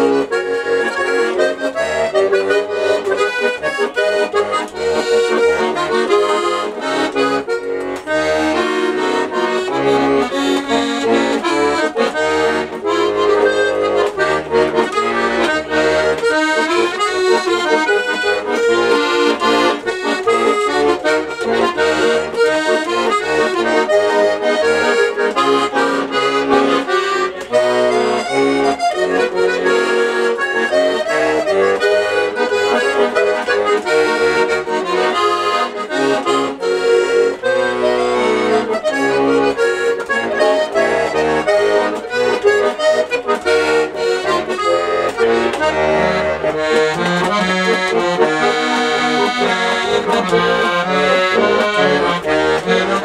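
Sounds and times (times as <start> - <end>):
button accordion tune: 0.0 - 53.0.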